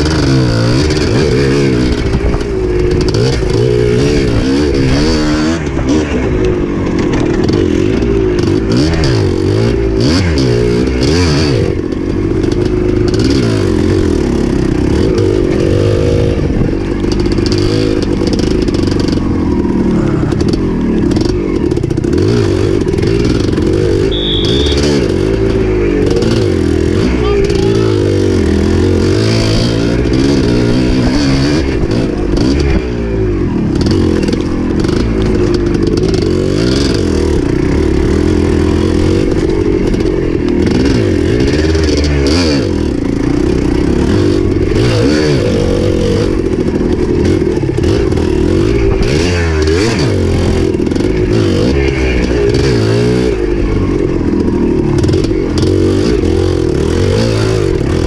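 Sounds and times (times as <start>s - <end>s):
bike rattling: 0.0s - 58.0s
dirt bike engine revving: 0.0s - 58.0s.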